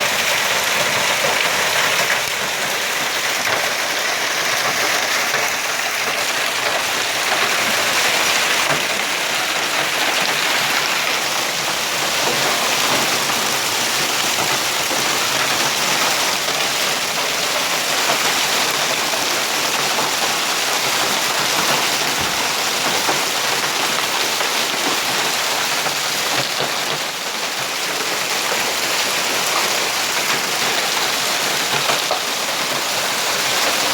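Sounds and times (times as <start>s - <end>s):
hail clattering on hard surfaces: 0.0s - 33.9s.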